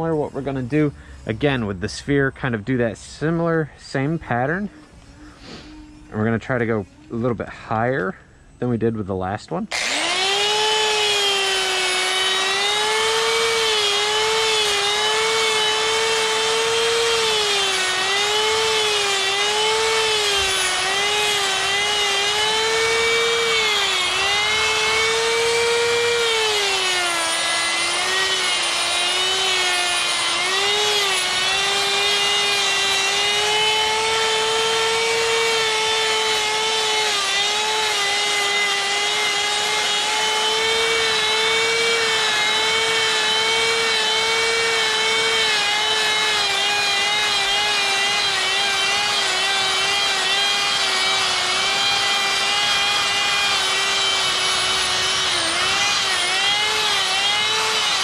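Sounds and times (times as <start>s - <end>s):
rotary tool grinding wood: 9.7s - 58.0s.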